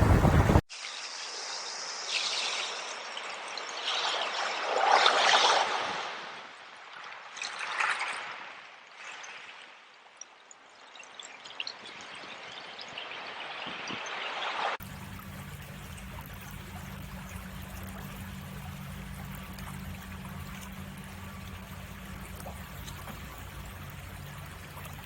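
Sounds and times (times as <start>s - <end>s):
stream trickling and gurgling: 0.0s - 25.0s
wind and waves: 0.0s - 25.0s.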